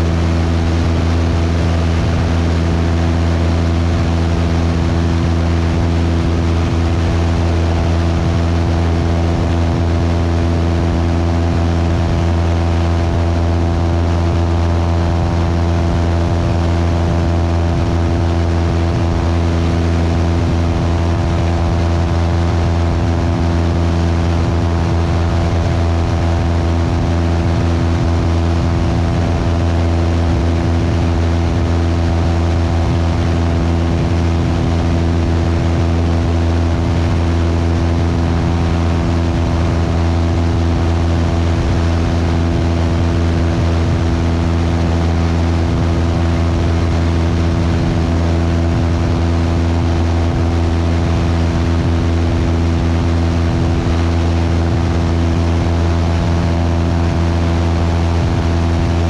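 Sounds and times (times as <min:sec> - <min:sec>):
airplane engine drone: 0:00.0 - 0:59.0.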